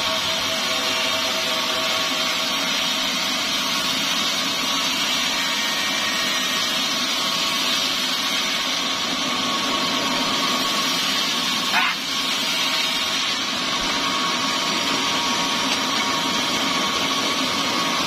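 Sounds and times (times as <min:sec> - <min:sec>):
band saw running: 0:00.0 - 0:18.0.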